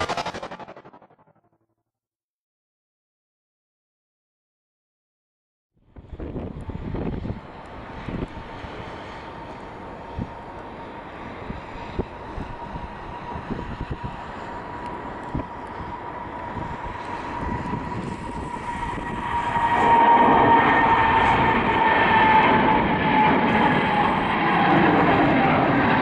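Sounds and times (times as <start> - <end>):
jet engine roar: 0.0 - 1.4, 6.0 - 26.0.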